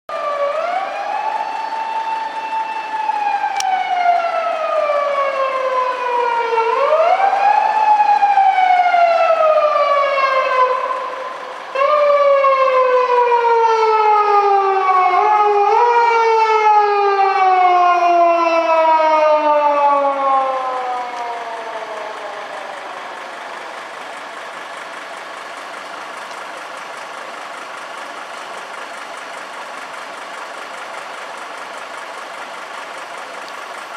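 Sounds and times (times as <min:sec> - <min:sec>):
police siren wailing: 0:00.1 - 0:33.9.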